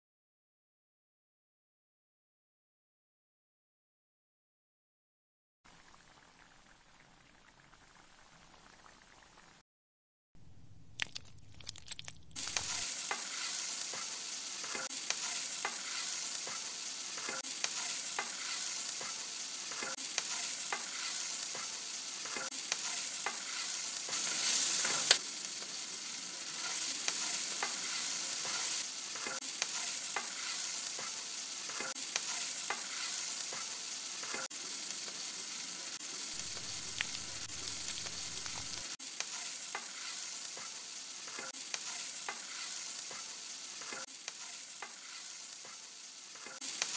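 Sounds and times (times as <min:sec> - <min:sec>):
onion frying in oil: 0:05.7 - 0:09.6, 0:10.4 - 0:46.9.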